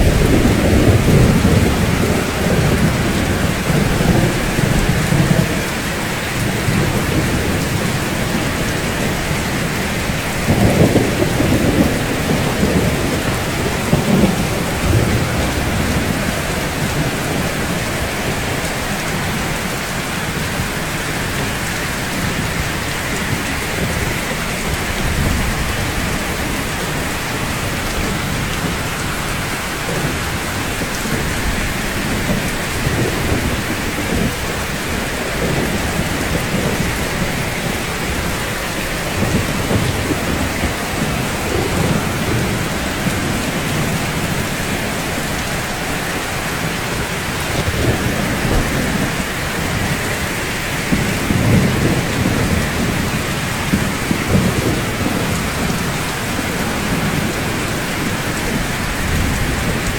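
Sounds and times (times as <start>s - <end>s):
rain falling on rooftops: 0.0s - 59.9s.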